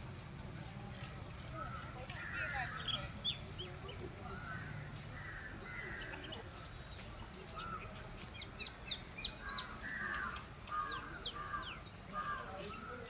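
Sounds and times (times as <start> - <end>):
birds chirping: 0.0 - 13.0
steady background noise: 0.0 - 13.0
rough bird calls: 1.5 - 13.0.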